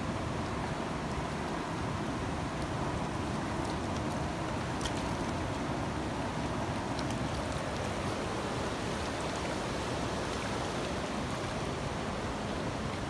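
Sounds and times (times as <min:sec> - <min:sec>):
fast river rushing: 0:00.0 - 0:13.0.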